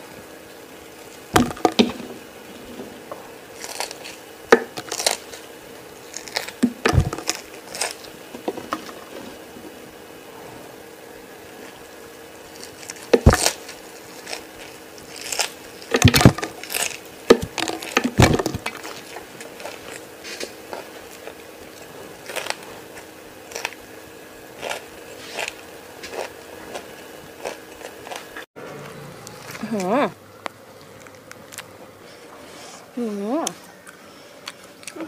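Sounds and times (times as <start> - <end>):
crunchy chewing of raw vegetables: 0.9 - 32.7, 33.4 - 35.0.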